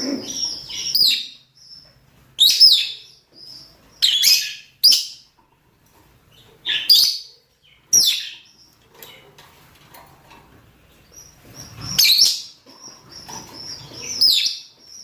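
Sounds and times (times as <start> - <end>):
lovebirds chirping: 0.0 - 9.6, 10.3 - 15.0.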